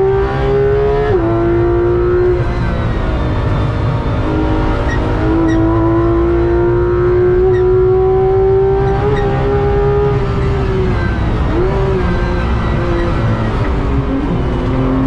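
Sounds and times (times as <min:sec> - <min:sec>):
car engine revving under load: 0:00.0 - 0:15.0
road and tyre noise: 0:00.0 - 0:15.0.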